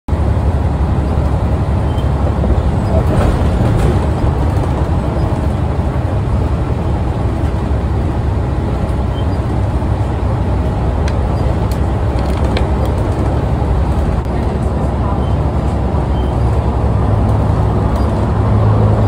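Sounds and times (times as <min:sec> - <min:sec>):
road and engine rumble: 0:00.1 - 0:19.0.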